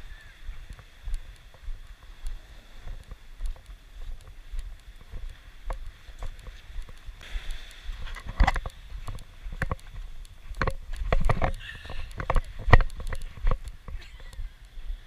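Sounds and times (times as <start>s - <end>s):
footsteps on pebbly sand: 0.0s - 14.0s.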